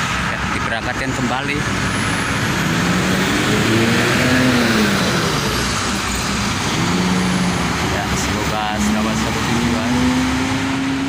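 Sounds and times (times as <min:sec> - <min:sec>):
diesel bus accelerating: 0:00.0 - 0:11.0
road and tyre noise: 0:00.0 - 0:11.0.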